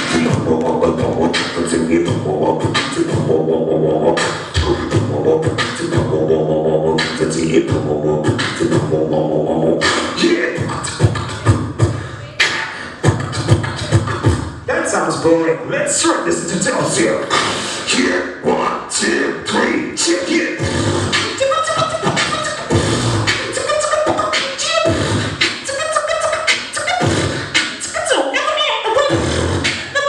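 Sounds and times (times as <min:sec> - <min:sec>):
beatboxing vocal drum hits: 0:00.0 - 0:14.6, 0:16.6 - 0:18.8, 0:19.4 - 0:28.0, 0:29.0 - 0:30.0.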